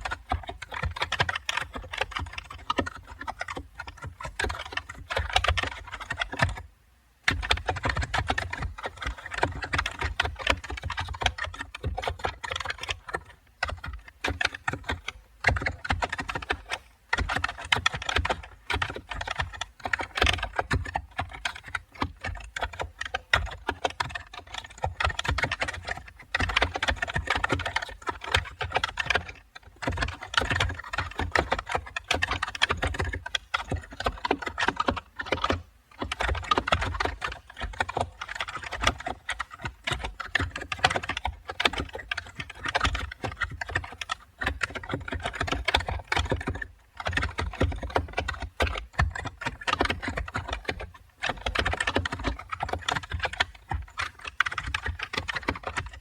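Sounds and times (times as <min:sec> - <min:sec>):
computer keyboard typing: 0:00.0 - 0:06.7, 0:07.3 - 0:56.0.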